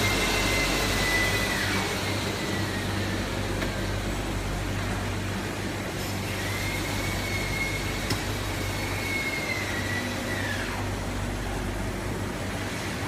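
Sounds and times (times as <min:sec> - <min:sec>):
filling machine running: 0:00.0 - 0:11.6
machine whine: 0:00.0 - 0:13.0.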